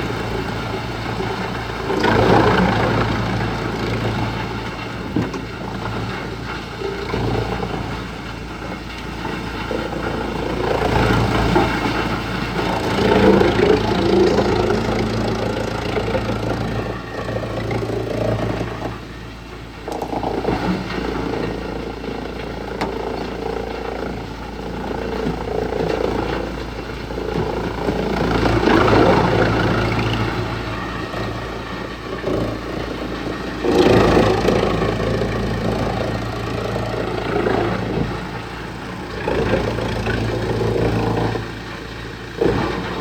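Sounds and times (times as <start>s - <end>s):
wood chipper engine running: 0.0s - 43.0s.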